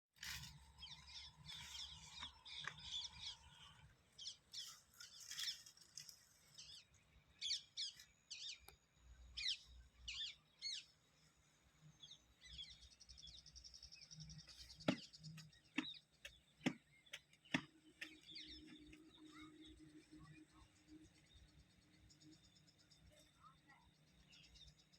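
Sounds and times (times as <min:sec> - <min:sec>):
birds chirping: 0:00.3 - 0:24.9.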